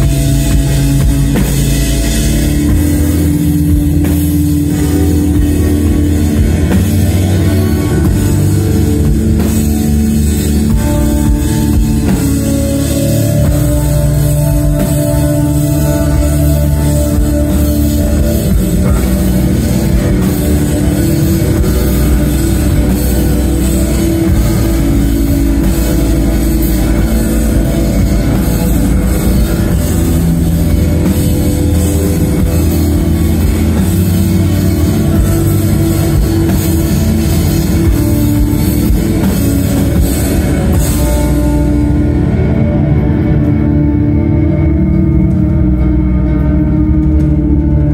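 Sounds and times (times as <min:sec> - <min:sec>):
drum kit: 0:00.0 - 0:47.9
electric guitars: 0:00.0 - 0:47.9.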